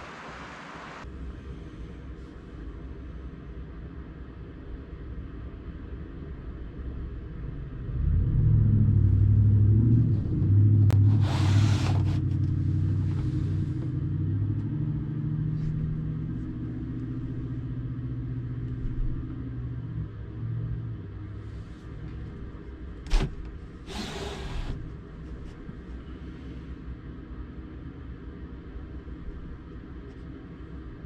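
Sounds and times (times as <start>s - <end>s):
vehicle engine humming: 4.6s - 31.0s.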